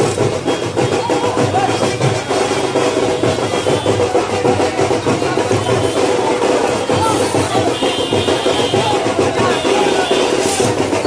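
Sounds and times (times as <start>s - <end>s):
loud music with drum beat: 0.0s - 11.0s.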